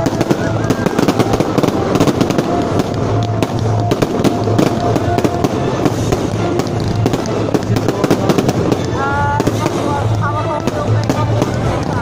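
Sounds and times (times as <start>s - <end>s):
fireworks bursting: 0.0s - 12.0s
fireworks crackling: 0.0s - 12.0s.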